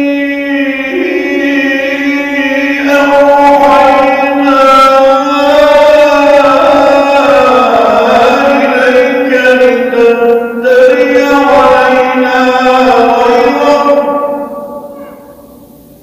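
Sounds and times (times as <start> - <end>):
man chanting melodically: 0.0 - 15.9.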